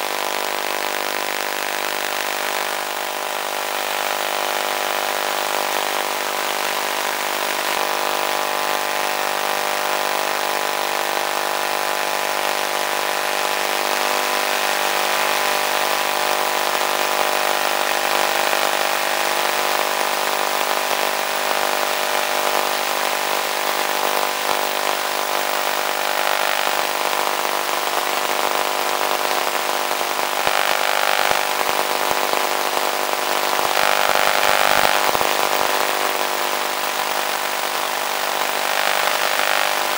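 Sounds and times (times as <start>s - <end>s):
model plane motor humming: 0.0s - 39.9s.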